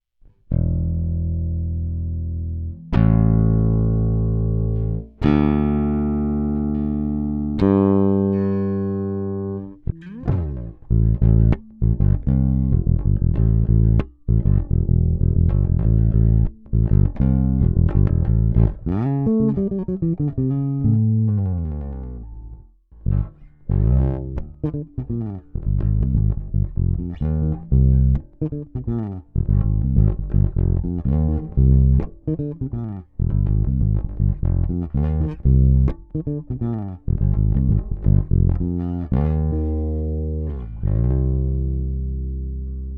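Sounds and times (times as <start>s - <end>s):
electric bass guitar: 0.2s - 42.9s.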